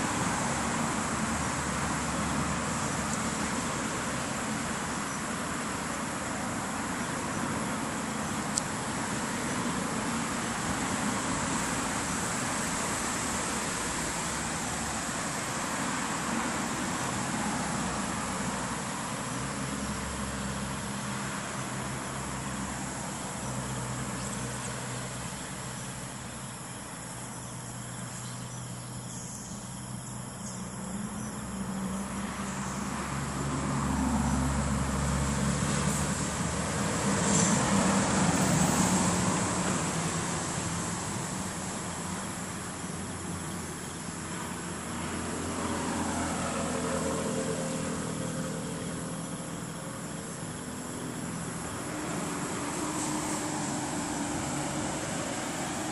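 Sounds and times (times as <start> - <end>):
high insect drone: 0.0 - 55.9
low traffic-like rumble: 0.0 - 55.9.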